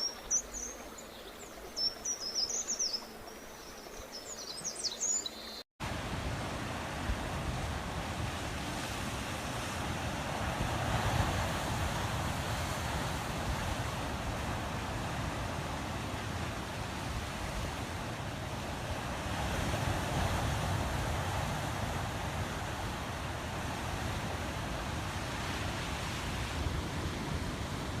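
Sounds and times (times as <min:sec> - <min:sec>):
rushing outdoor nature ambience: 0:00.0 - 0:28.0.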